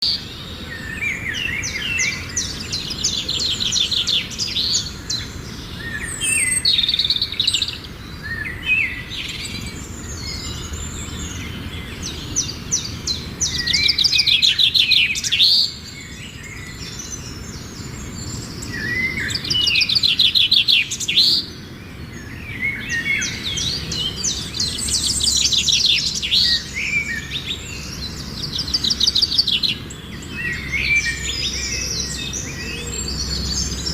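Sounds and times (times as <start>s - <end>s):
songbirds trilling and chirping: 0.0s - 33.9s.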